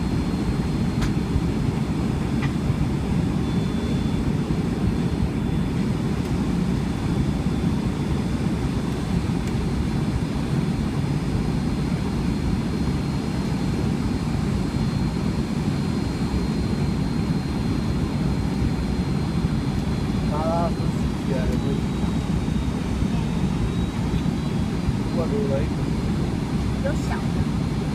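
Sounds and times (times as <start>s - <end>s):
airliner cabin engine rush: 0.0s - 27.9s
faint high whine: 0.0s - 27.9s.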